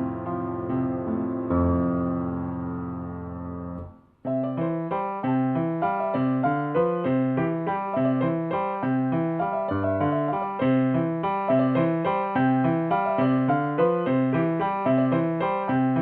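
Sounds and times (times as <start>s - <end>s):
solo piano playing: 0.0s - 16.0s.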